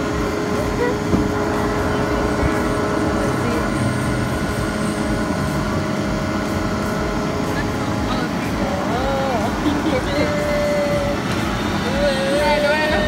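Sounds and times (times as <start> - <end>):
amusement ride mechanical rumble: 0.0 - 13.0.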